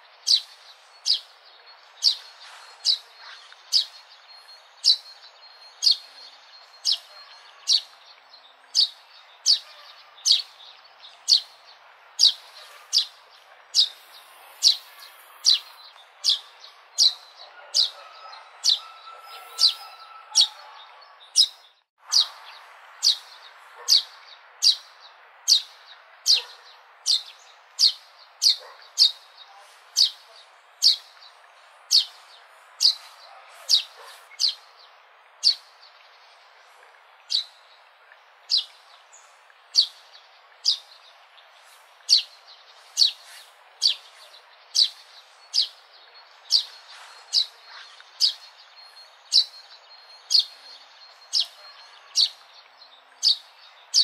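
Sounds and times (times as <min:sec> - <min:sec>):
sparrow chirping: 0:00.0 - 0:36.2, 0:37.2 - 0:37.7, 0:38.4 - 0:54.0.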